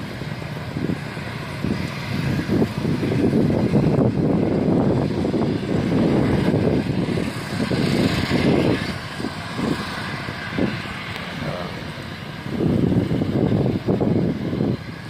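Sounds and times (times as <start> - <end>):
airplane engines rushing: 0.0 - 15.0.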